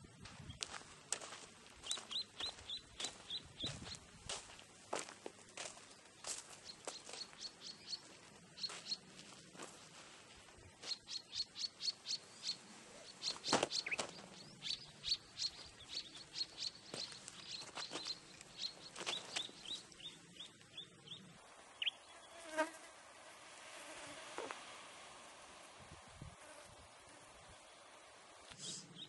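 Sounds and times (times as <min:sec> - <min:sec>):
faint buzz of flies: 0:01.2 - 0:29.0.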